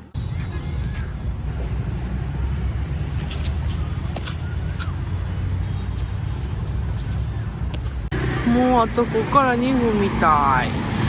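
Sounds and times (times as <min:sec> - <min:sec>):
low outdoor rumble: 0:01.2 - 0:11.0.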